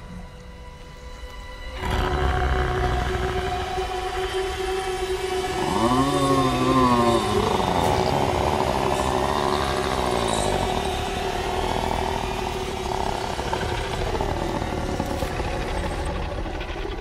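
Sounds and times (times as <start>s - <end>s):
rasping buzzing drone: 0.0s - 17.0s.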